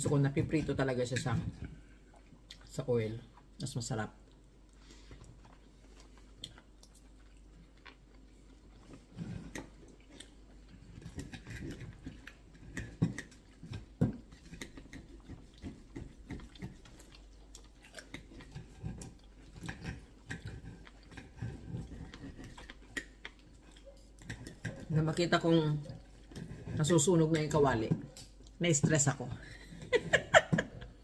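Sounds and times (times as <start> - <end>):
person chewing food: 1.2 - 3.6, 4.2 - 28.6.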